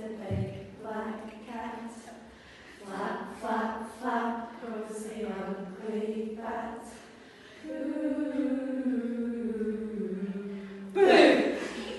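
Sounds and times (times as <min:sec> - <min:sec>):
voices singing a slow tune: 0:00.0 - 0:11.9.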